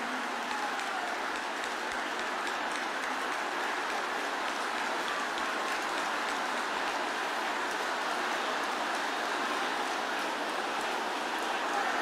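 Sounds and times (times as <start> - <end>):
crowd praying aloud: 0.0 - 12.0.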